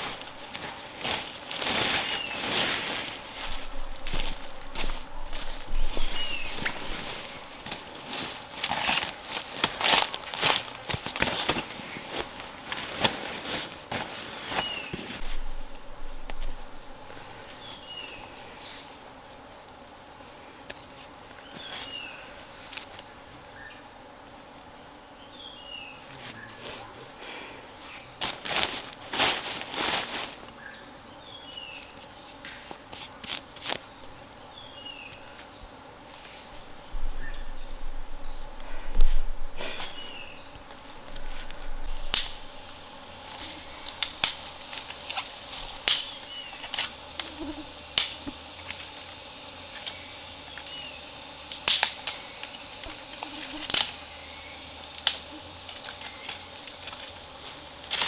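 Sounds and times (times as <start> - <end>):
high-pitched insect drone: 0.0 - 12.6, 13.7 - 28.5, 30.3 - 58.0
rustling and crunching: 0.0 - 19.1, 20.7 - 23.1, 26.1 - 30.7, 31.4 - 58.0.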